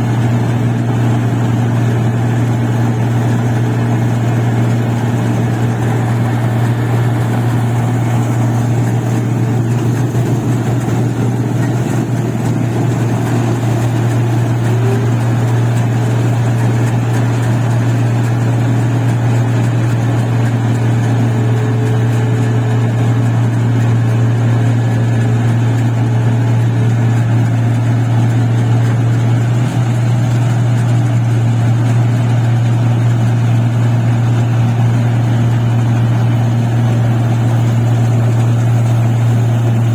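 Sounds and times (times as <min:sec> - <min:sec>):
machine engine droning: 0:00.0 - 0:39.9.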